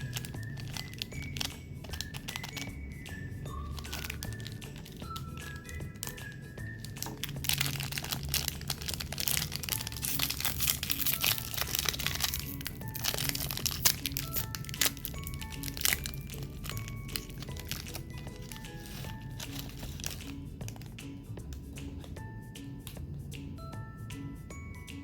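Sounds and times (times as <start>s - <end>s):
plastic wrapper crinkling: 0.0s - 21.0s
background music: 0.0s - 25.0s.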